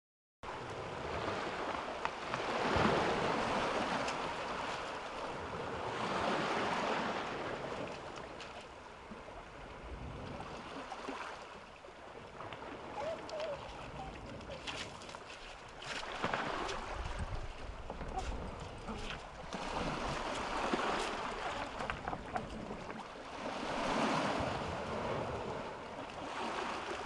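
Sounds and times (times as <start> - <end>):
small waves washing over rocks: 0.7 - 27.0.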